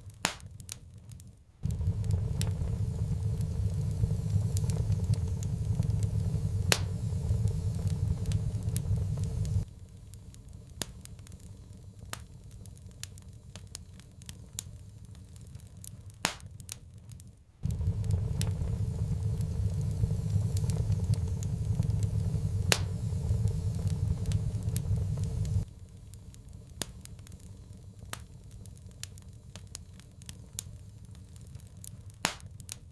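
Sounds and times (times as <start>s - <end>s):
wood fire crackling and popping: 0.0s - 32.9s
low steady rumble: 1.5s - 16.2s, 17.5s - 32.9s.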